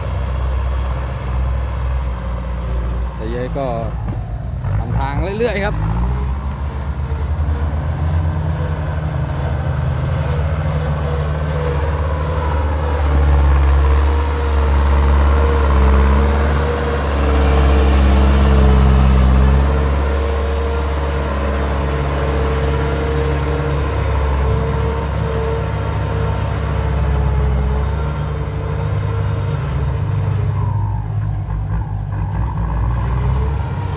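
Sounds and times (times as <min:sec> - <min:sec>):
heavy diesel truck engine revving: 0:00.0 - 0:33.9.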